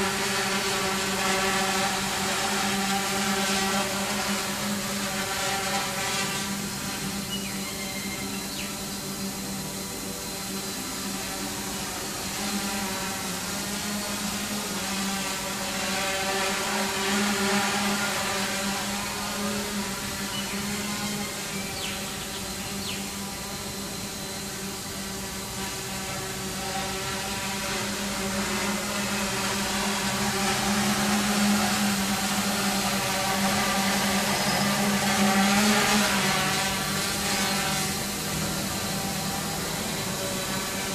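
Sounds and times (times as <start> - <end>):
quadcopter propellers whirring: 0.0 - 40.9.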